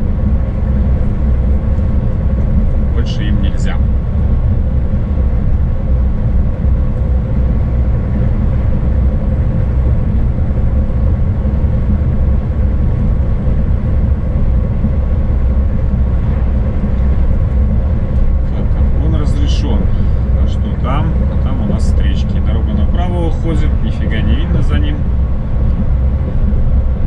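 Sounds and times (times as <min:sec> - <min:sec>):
faint steady whine: 0:00.0 - 0:27.0
truck engine hum: 0:00.0 - 0:27.0.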